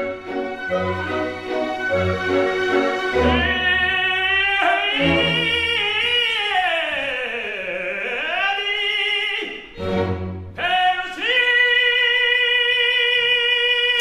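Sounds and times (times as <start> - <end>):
operatic singing: 0.0 - 14.0
orchestra: 0.0 - 14.0.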